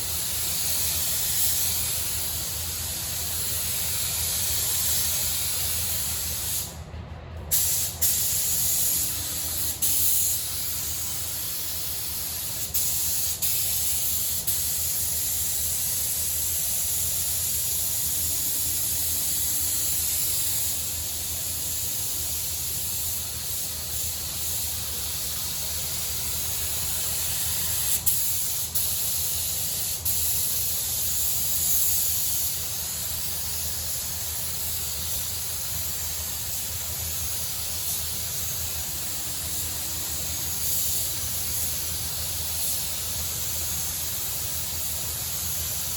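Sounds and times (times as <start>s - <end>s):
air spray gun hissing: 0.0s - 6.8s, 7.5s - 45.9s.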